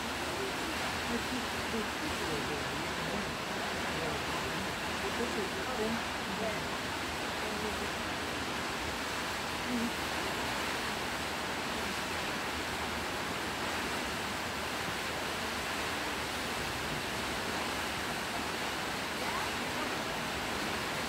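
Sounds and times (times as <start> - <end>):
waterfall pouring into pool: 0.0 - 21.0.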